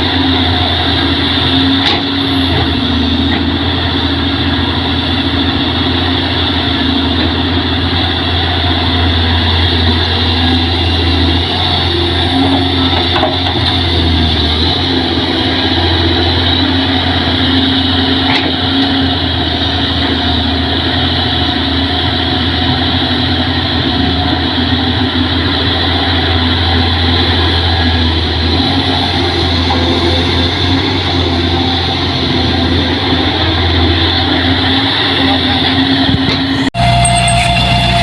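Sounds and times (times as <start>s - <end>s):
tractor engine droning: 0.0s - 38.0s.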